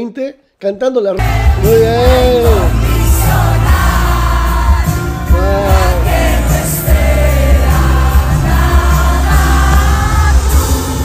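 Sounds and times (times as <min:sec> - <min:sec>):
crowd singing: 0:01.2 - 0:11.0
lead singer's voice: 0:01.2 - 0:11.0
live band playing: 0:01.2 - 0:11.0.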